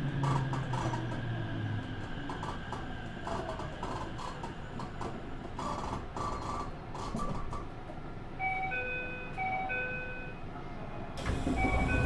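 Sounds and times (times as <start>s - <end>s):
train rumbling: 0.0s - 8.8s, 11.2s - 12.0s.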